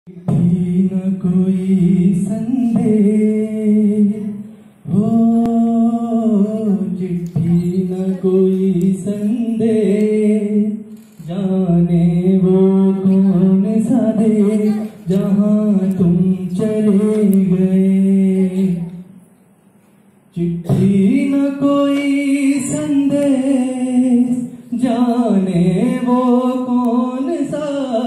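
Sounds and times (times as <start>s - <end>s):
man singing unaccompanied: 0.1s - 19.1s, 20.3s - 28.0s.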